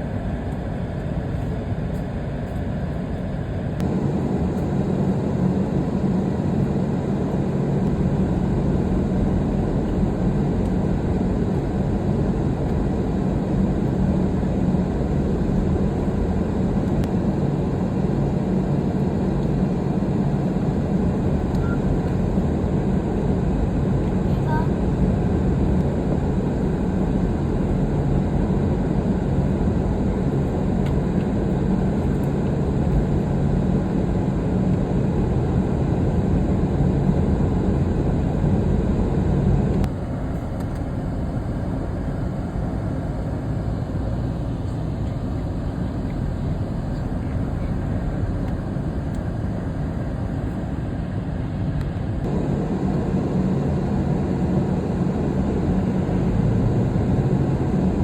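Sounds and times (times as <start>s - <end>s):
moving vehicle rumble: 0.0s - 58.0s.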